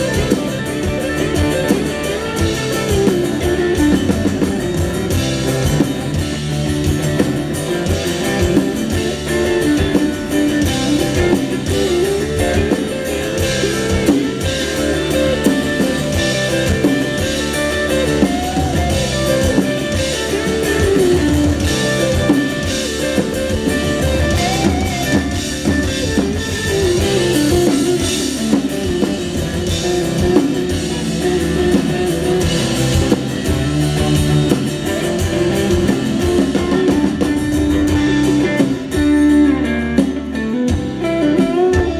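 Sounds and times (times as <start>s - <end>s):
drum kit: 0.0s - 41.9s
electric guitars: 0.0s - 41.9s.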